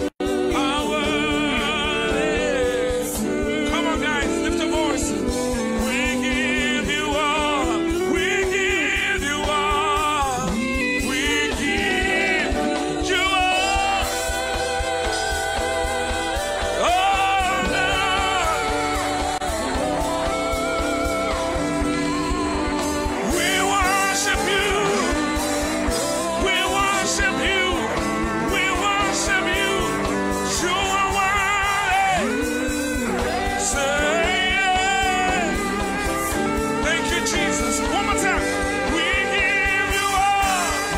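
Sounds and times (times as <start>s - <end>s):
band playing: 0.0s - 40.9s
singers with heavy vibrato: 0.0s - 40.9s.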